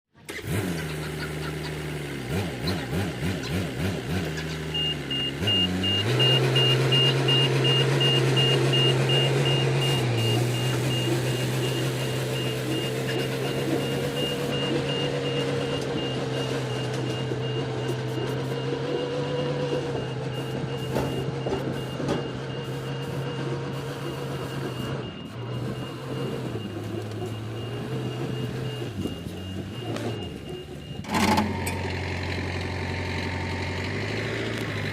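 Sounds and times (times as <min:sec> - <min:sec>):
heavy truck engine running: 0:00.1 - 0:34.9
backup alarm beeping: 0:04.4 - 0:32.5.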